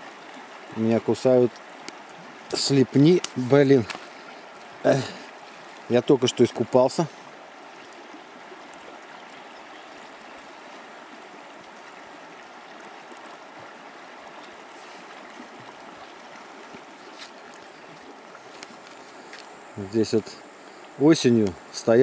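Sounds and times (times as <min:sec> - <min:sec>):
river rushing over stones: 0:00.0 - 0:22.0.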